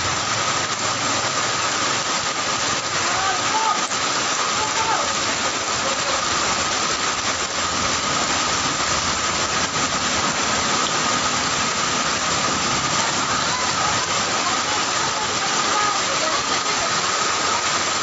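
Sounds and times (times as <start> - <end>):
heavy rain and flowing water: 0.0 - 18.0.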